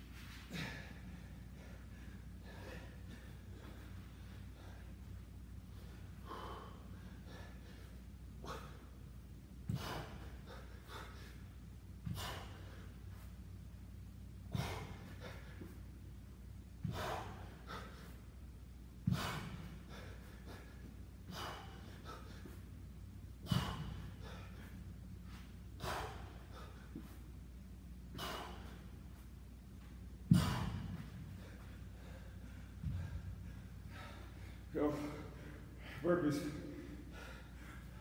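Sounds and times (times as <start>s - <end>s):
man gasping for breath: 0.2s - 13.4s, 14.4s - 15.9s, 16.8s - 18.4s, 19.0s - 22.8s, 23.4s - 27.3s, 28.1s - 29.3s, 30.3s - 38.0s.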